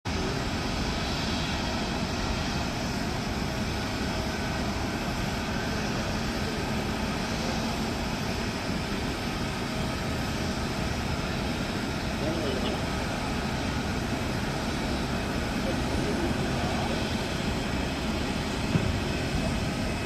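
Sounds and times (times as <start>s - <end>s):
jet engines rumbling: 0.1s - 20.0s.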